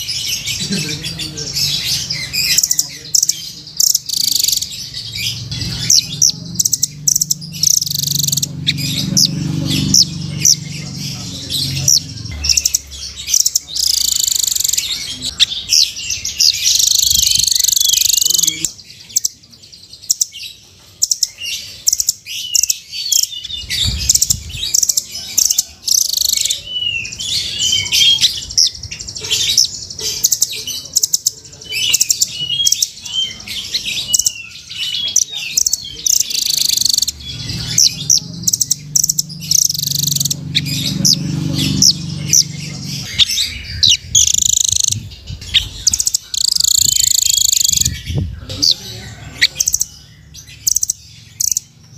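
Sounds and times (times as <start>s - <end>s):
bird chirping and trilling: 0.0s - 51.9s.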